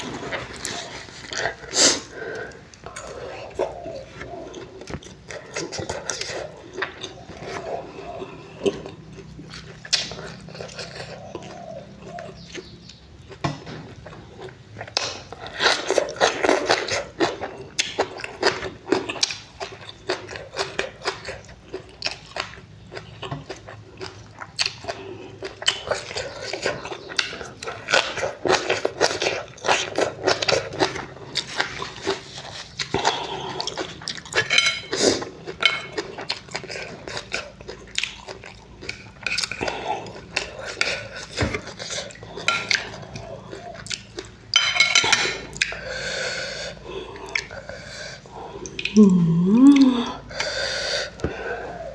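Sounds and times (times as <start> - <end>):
person chewing and lip-smacking: 0.0 - 45.9, 46.7 - 51.4.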